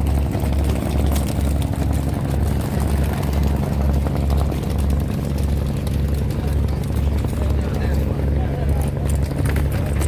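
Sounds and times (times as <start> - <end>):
ferry engine pulsing hum: 0.0 - 10.0.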